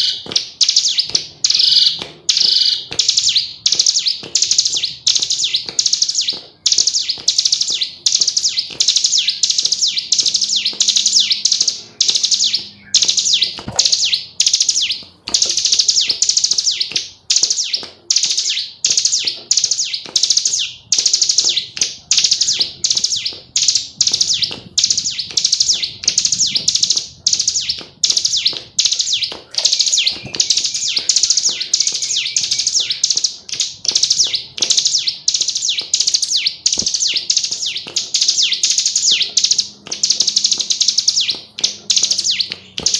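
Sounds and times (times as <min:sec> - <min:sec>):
bird high-pitched chirps: 0:00.0 - 0:42.9.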